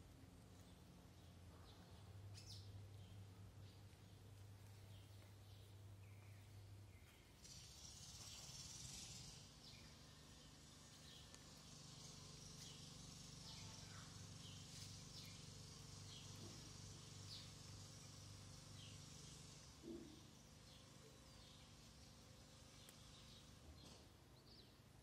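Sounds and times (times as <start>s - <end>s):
outdoor background hiss: 0.0s - 25.0s
steady low hum: 0.0s - 25.0s.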